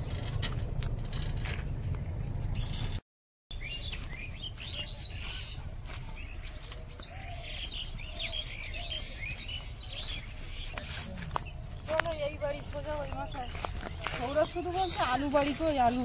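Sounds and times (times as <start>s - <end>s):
small birds chirping: 1.6s - 16.0s.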